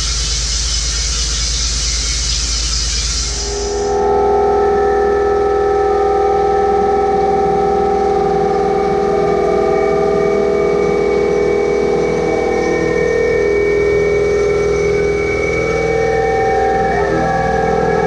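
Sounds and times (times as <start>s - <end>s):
milling machine whine: 3.1s - 18.0s.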